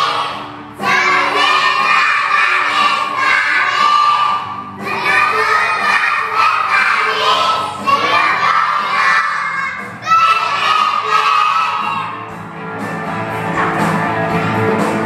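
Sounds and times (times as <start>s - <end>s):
children singing in unison: 0.0s - 12.2s.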